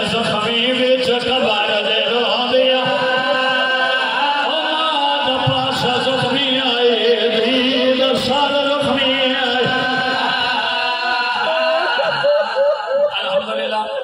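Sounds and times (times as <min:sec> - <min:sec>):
lead voice singing: 0:00.0 - 0:14.0
men chanting a lament: 0:00.0 - 0:14.0.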